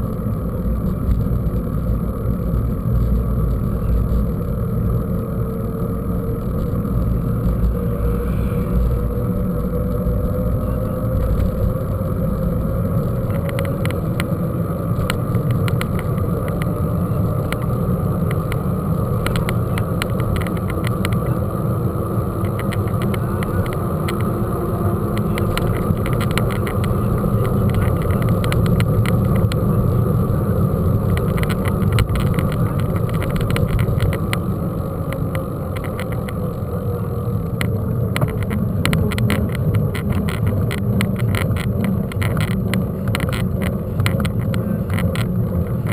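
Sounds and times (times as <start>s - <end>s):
wind rumble on microphone: 0.0s - 45.9s
bike clicks and rattles: 2.9s - 45.9s.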